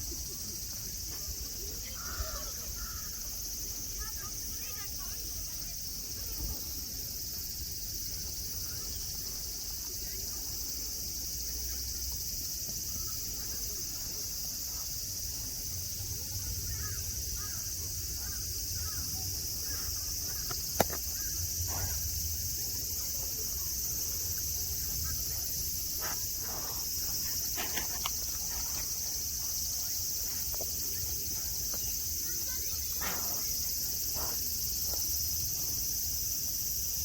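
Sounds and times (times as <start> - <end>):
cicadas droning: 0.0 - 37.0.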